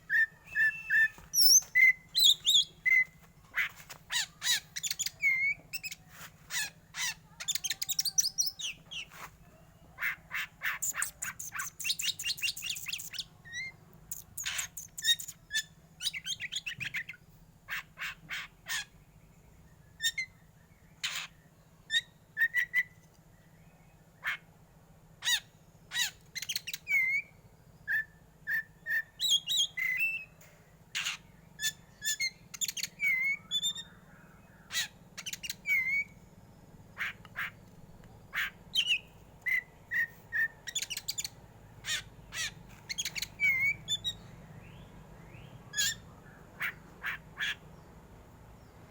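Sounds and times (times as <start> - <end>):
bird singing harsh trills: 0.0 - 23.0, 25.2 - 47.9.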